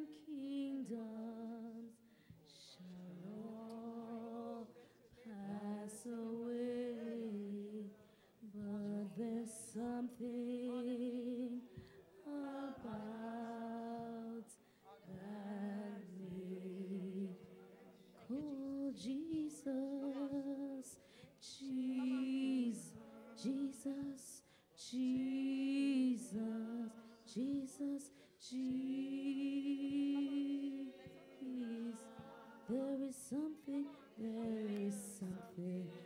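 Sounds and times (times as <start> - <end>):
woman singing unaccompanied: 0.0 - 17.5, 18.2 - 36.0.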